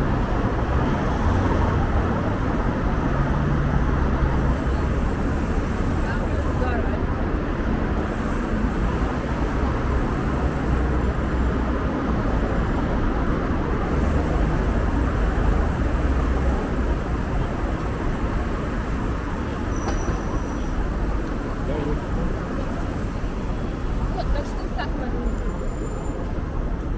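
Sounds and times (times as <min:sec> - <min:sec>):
city road traffic rumble: 0:00.0 - 0:26.9.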